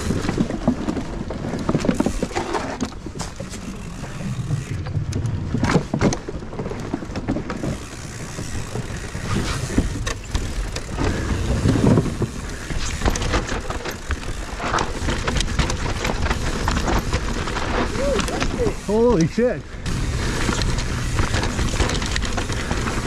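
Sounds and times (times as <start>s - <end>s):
wind rumbling on microphone: 0.0s - 18.9s
bike rattling: 0.0s - 23.0s.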